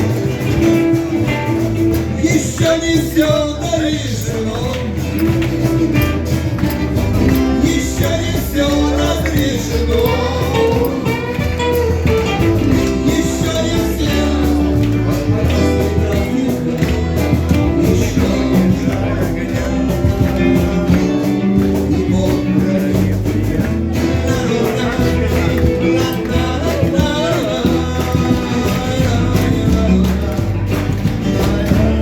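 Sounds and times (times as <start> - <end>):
live rock band playing: 0.0 - 32.0.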